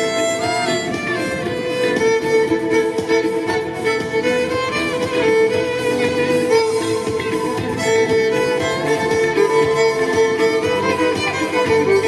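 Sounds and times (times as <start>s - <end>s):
violin melody over loudspeaker: 0.0s - 12.0s.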